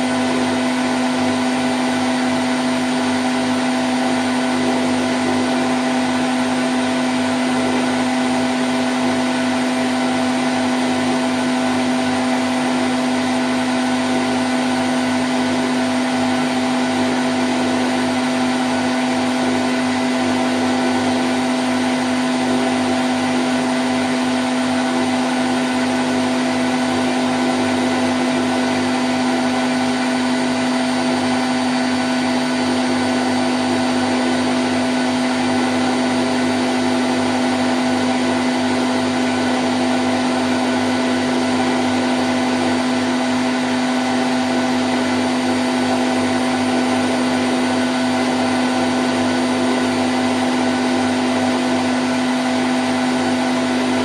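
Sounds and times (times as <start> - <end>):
washing machine spin cycle: 0.0 - 54.0.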